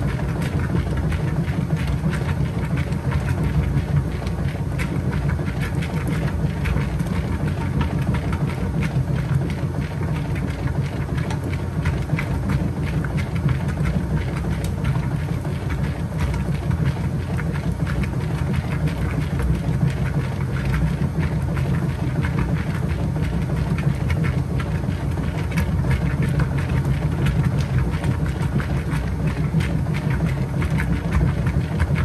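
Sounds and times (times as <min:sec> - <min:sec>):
washing machine motor hum: 0:00.0 - 0:32.0.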